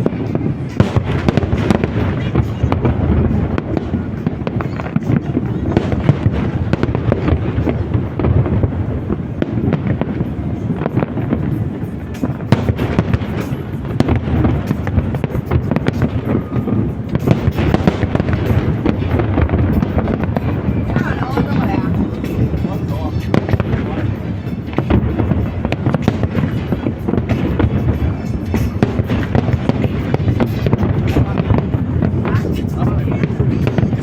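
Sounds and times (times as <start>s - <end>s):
fireworks booming and crackling: 0.0s - 34.0s.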